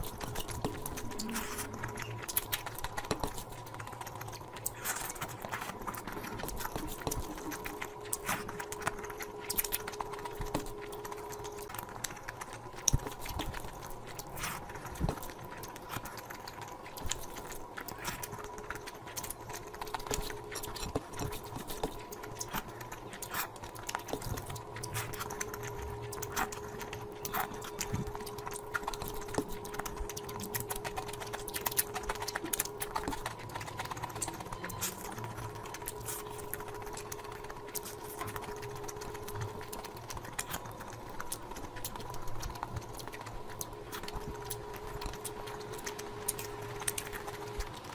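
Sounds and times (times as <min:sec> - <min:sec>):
faint steady hum: 0:00.0 - 0:47.9
wet mouth clicks and chewing: 0:00.0 - 0:47.9.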